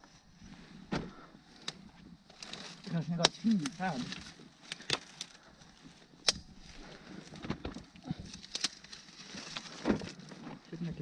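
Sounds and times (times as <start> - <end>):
dry twigs snapping: 1.5 - 10.5.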